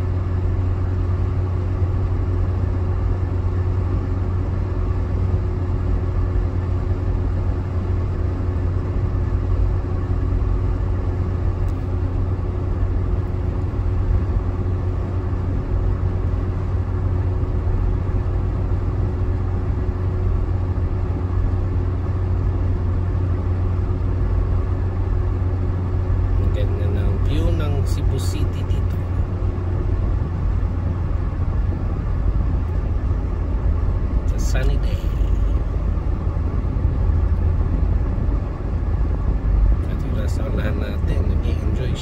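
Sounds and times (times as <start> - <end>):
car road and engine rumble: 0.0 - 42.0
faint steady hum: 0.0 - 42.0.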